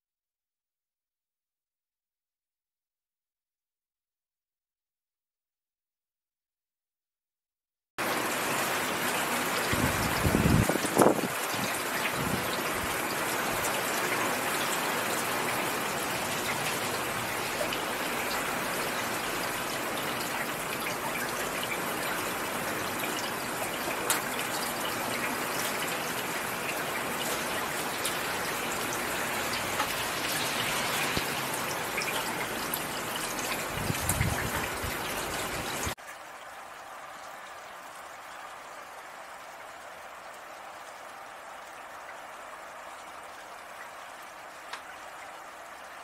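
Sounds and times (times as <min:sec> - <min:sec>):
heavy rain falling: 0:08.0 - 0:45.7.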